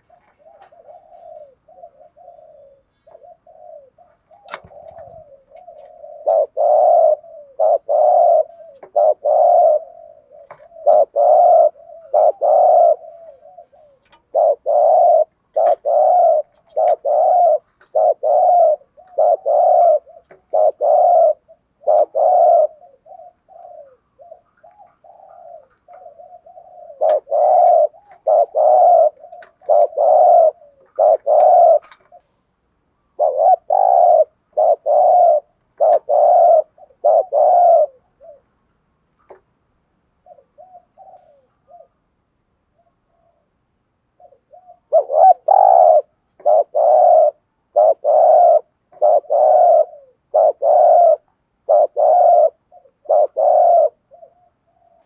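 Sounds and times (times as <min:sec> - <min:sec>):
dove cooing: 0:00.0 - 0:32.4, 0:33.0 - 0:38.6, 0:40.2 - 0:42.1, 0:42.7 - 0:55.0.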